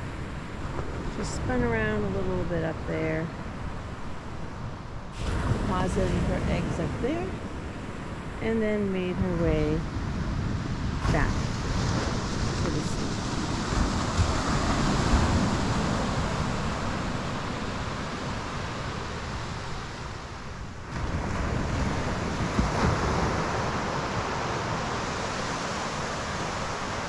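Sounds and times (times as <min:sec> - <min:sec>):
ocean surf washing: 0:00.0 - 0:27.0
wind gusting on microphone: 0:00.0 - 0:27.0.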